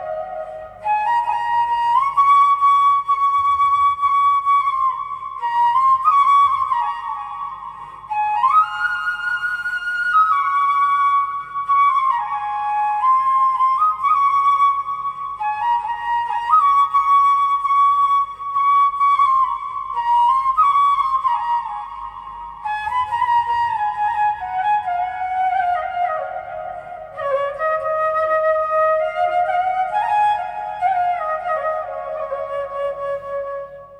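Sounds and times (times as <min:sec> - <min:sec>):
solo flute melody: 0:00.0 - 0:33.9.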